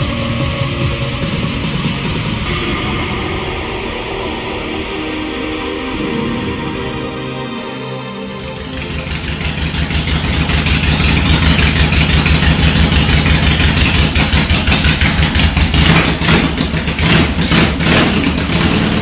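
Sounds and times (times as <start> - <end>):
motorcycle engine running: 0.0 - 7.0, 8.1 - 19.0.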